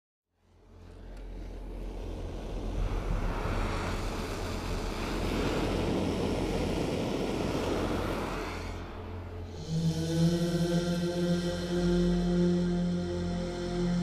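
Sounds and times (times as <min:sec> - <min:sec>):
low steady hum: 0:00.4 - 0:14.0.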